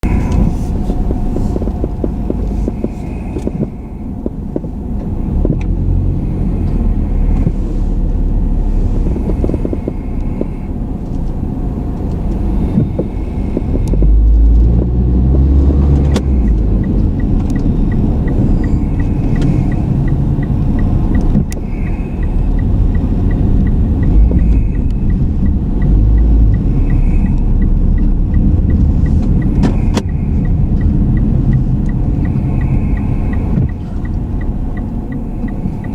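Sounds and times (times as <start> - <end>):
car engine and tyre rumble: 0.0 - 35.9
light regular ticking: 0.0 - 35.9.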